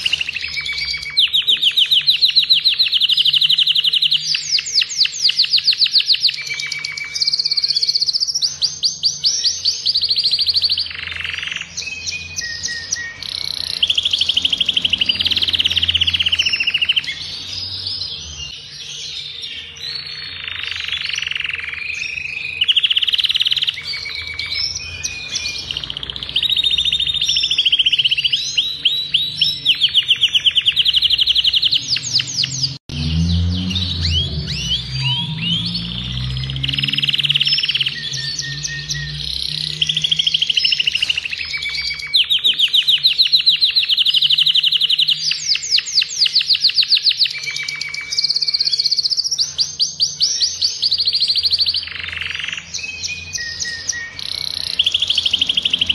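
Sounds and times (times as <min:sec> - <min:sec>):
canary singing trills: 0:00.0 - 0:55.9.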